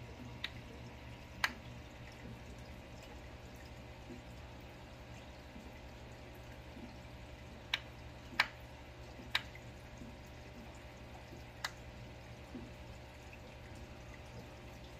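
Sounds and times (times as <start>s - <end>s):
low pump hum: 0.0s - 14.9s
water trickling: 0.0s - 14.9s.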